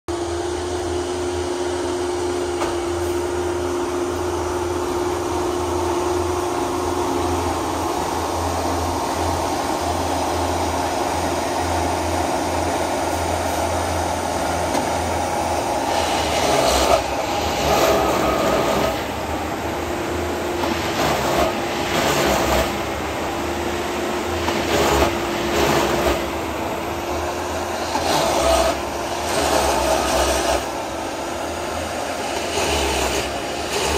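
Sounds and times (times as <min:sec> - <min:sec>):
engine humming: 0:00.1 - 0:33.9
tamping heads surging: 0:03.3 - 0:33.9.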